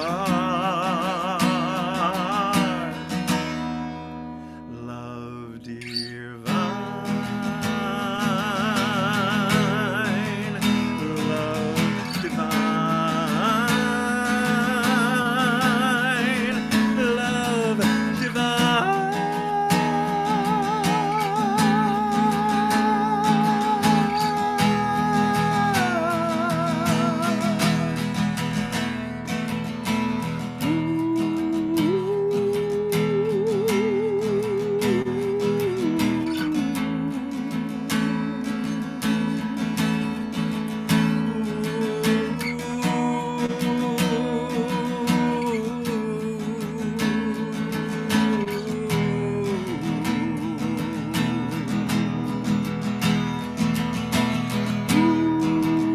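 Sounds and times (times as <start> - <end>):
acoustic guitar strumming: 0.0 - 55.9
wordless vocal melody: 0.0 - 55.9.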